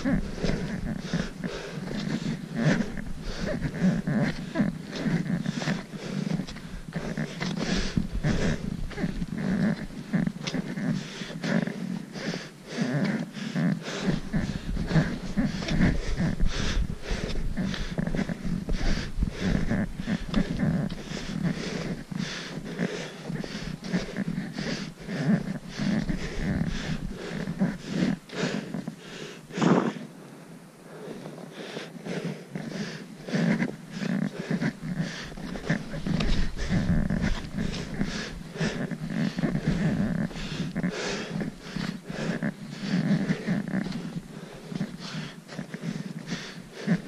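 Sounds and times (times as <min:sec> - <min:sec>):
heavy breathing: 0:00.0 - 0:47.0.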